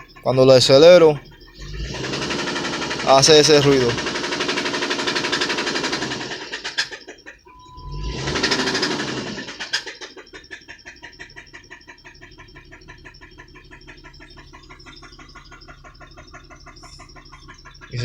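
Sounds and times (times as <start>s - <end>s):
car engine revving and knocking: 0.0s - 18.0s.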